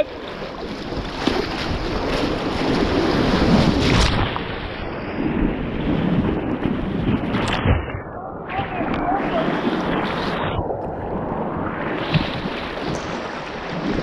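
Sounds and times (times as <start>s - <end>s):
whitewater splashing on kayak: 0.0s - 14.0s.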